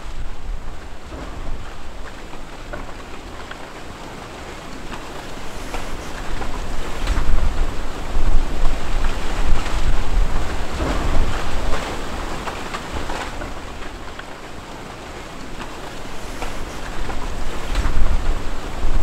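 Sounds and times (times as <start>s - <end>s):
deep volcanic rumbling: 0.0s - 4.0s, 4.8s - 14.2s, 16.1s - 19.0s
faint crackles: 0.0s - 19.0s.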